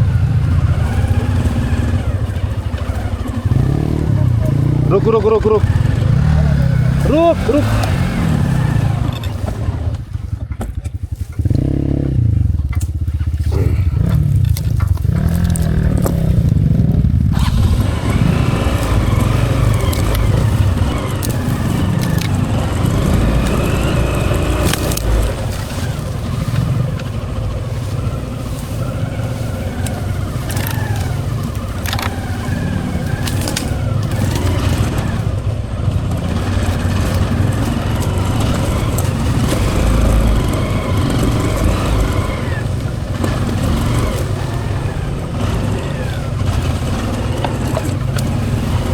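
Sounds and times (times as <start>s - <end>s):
motorcycle engine revving: 0.0s - 48.9s
motorcycle knocks and rattles: 0.0s - 48.9s.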